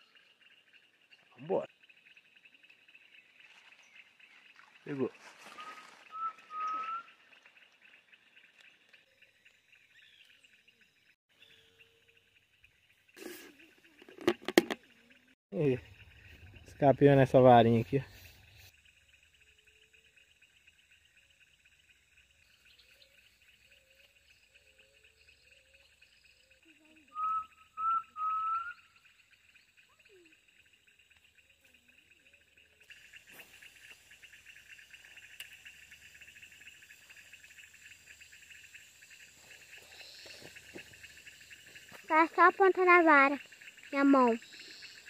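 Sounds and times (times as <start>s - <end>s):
faint low warbling calls: 0.0s - 45.0s
insects buzzing: 0.0s - 45.0s.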